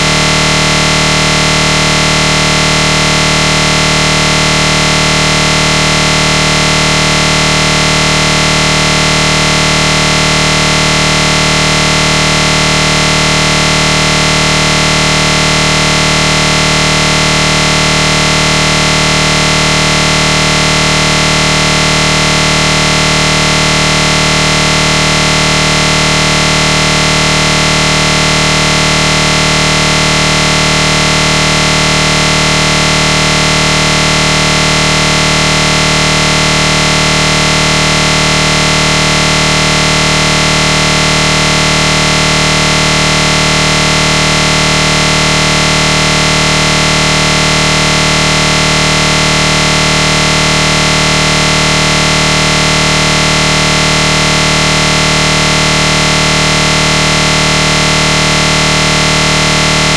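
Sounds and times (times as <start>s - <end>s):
loud buzzing drone: 0.0s - 59.9s.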